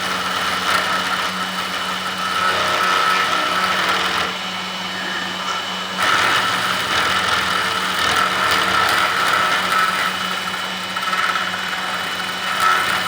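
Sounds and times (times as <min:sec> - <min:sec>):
end mill cutting metal: 0:00.0 - 0:13.0
machine spindle whining: 0:00.0 - 0:13.0.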